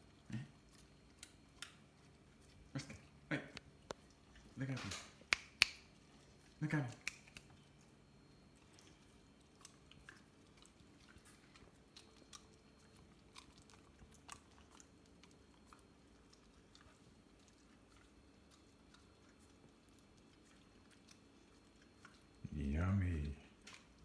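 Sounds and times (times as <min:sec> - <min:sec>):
dog chewing and licking: 0:00.0 - 0:24.0.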